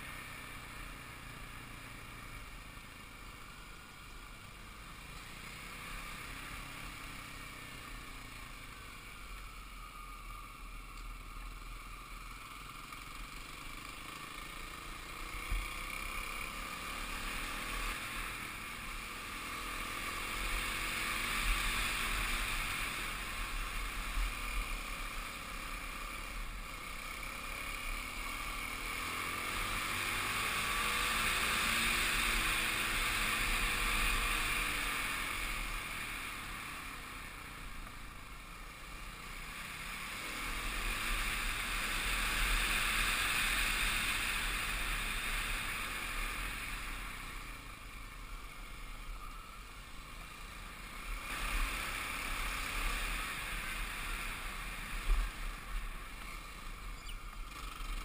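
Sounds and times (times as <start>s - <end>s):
dirt bike engine running: 4.8s - 58.0s.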